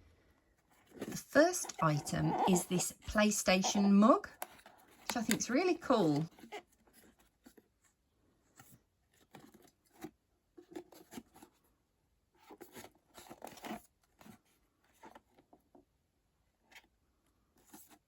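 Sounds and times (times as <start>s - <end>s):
objects and packaging handled: 0.4s - 11.7s, 12.4s - 15.8s.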